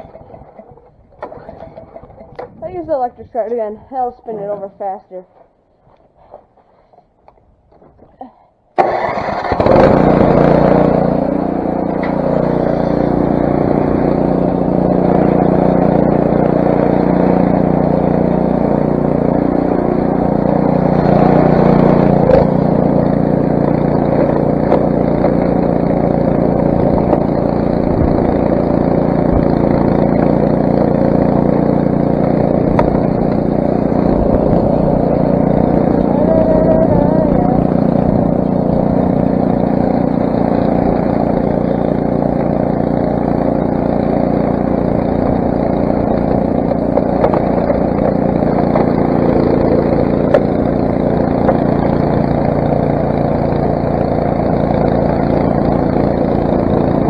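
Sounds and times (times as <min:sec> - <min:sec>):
snowblower engine starting and running: 0:00.0 - 0:04.5, 0:08.8 - 0:57.0.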